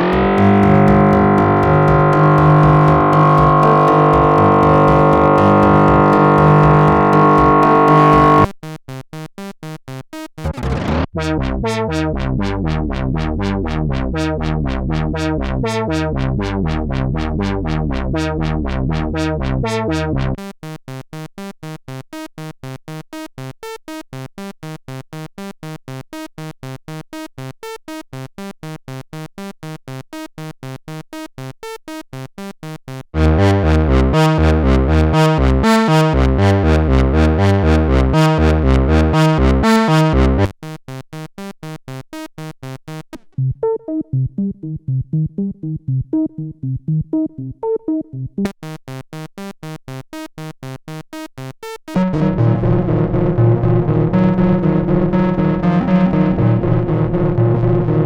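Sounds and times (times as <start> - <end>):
synthesizer sequenced note pattern: 0.0 - 58.0.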